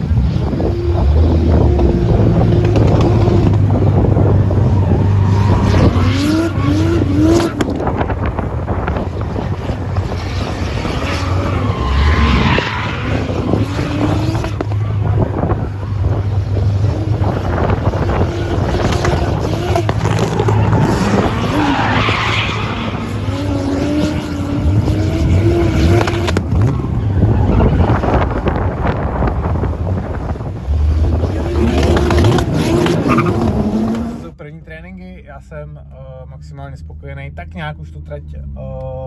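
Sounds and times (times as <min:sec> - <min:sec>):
car engine revving: 0:00.0 - 0:34.4.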